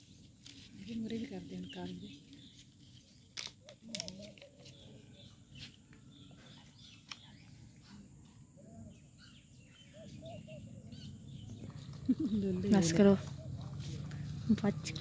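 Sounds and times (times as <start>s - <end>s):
bird chirps: 1.5s - 14.5s.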